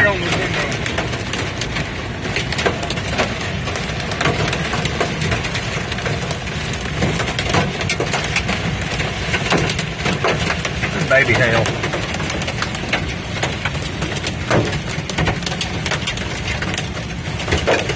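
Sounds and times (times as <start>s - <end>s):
hailstones ticking: 0.0s - 17.9s
heavy rain on windshield: 0.0s - 17.9s
road and engine noise: 0.0s - 17.9s.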